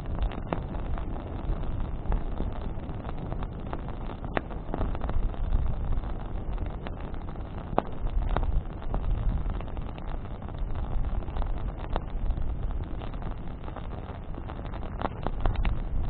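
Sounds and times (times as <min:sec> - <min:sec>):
bonfire low rumble: 0:00.0 - 0:16.0
fire crackling: 0:00.0 - 0:16.0.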